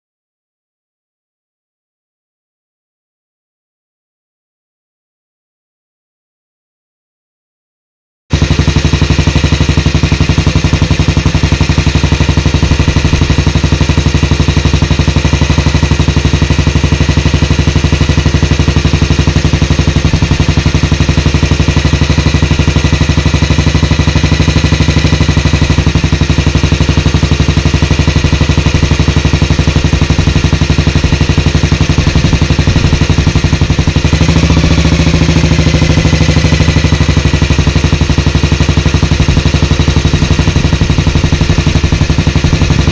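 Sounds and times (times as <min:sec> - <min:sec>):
motorcycle engine idling: 0:08.3 - 0:42.9.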